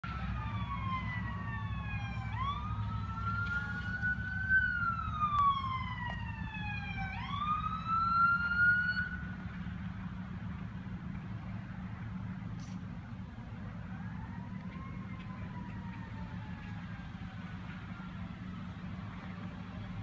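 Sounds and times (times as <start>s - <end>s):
low traffic rumble: 0.0s - 20.0s
sirens wailing: 0.0s - 20.0s.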